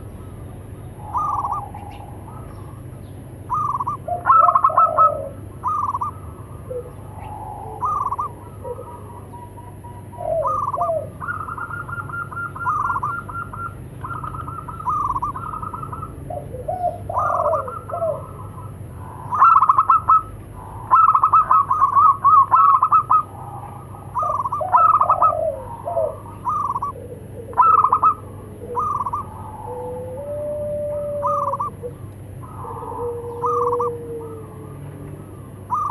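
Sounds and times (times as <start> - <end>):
doves cooing: 0.0 - 35.9.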